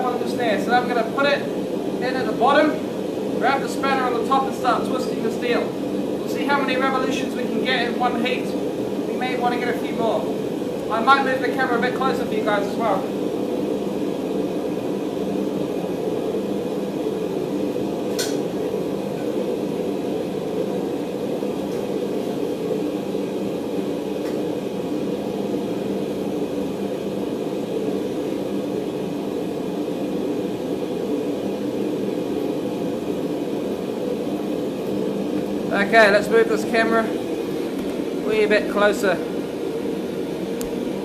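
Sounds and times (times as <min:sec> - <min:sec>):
forge rushing noise: 0:00.0 - 0:41.0.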